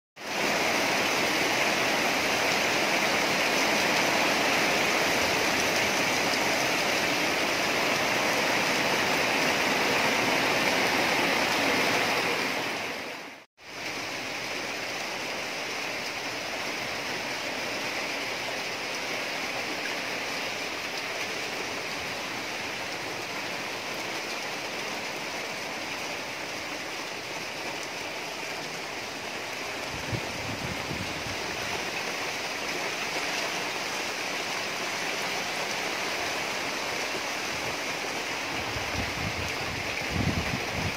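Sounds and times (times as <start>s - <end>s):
heavy rain falling: 0.2s - 40.9s.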